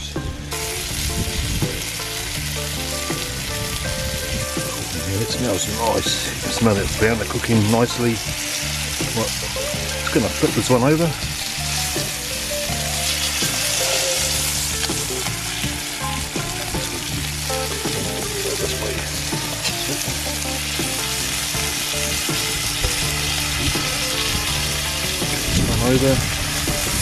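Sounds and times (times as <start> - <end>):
fish sizzling on a hotplate: 0.4 - 27.0.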